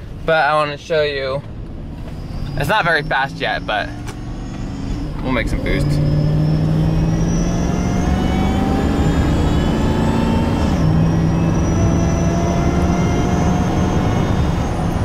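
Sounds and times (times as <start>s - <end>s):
car engine accelerating: 1.1s - 15.0s
supercharger whine: 1.6s - 15.0s.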